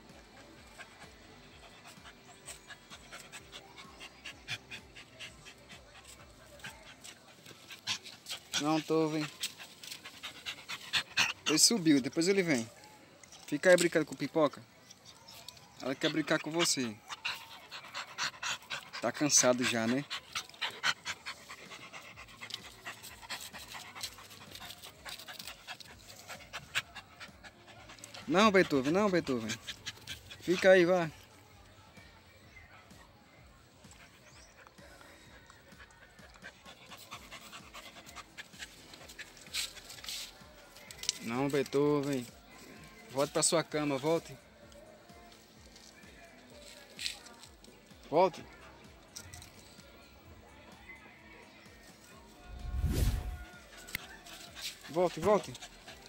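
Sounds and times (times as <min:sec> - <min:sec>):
dogs panting: 0:00.0 - 0:50.5, 0:53.2 - 0:56.0.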